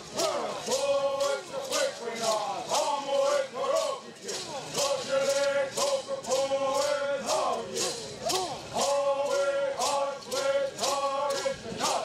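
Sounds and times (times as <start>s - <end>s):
men singing together: 0.0s - 12.0s
rattles shaken in a steady beat: 0.0s - 12.0s.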